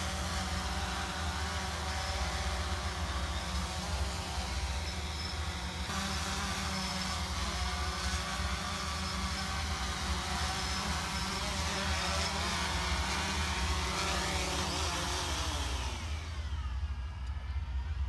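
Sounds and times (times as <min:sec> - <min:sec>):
grass blower motor running: 0:00.0 - 0:17.4.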